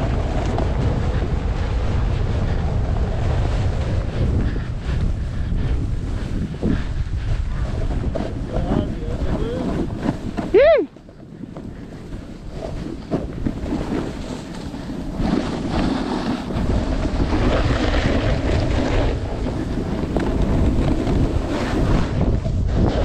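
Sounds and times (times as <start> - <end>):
ski edges scraping snow: 0.0 - 23.0
wind buffeting microphone: 0.0 - 23.0.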